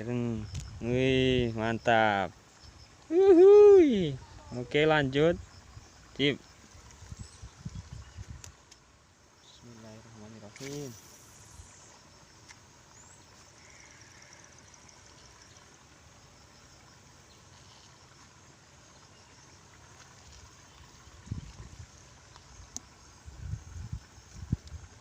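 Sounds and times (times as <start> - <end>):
pulsing insect chirr: 0.0 - 25.0
steady hiss: 0.0 - 25.0.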